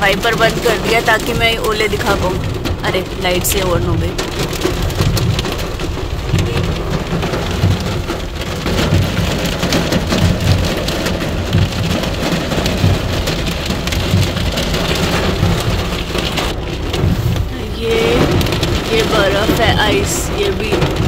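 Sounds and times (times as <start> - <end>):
hail and rain on car roof: 0.0 - 21.0.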